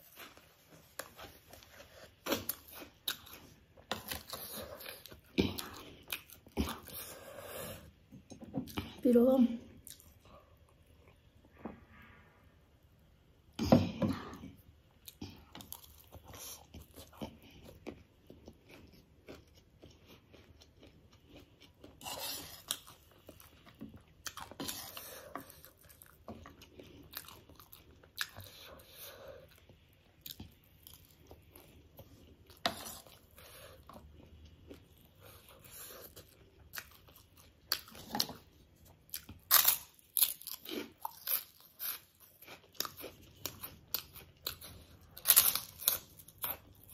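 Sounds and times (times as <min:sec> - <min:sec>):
crunching and chewing snack food: 0:00.0 - 0:07.9, 0:14.3 - 0:46.9.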